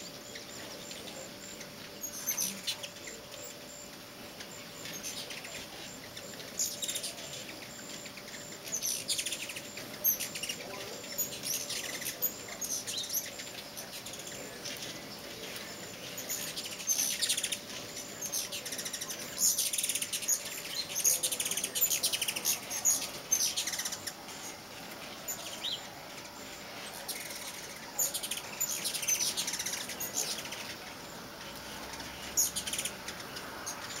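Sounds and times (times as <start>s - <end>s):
hummingbirds chipping and chattering: 0.0s - 34.0s.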